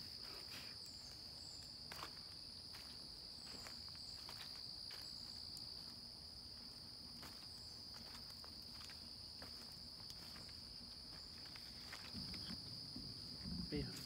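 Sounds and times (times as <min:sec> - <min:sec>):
soft footsteps on leaf litter: 0:00.0 - 0:12.6
crickets chirping: 0:00.0 - 0:14.0.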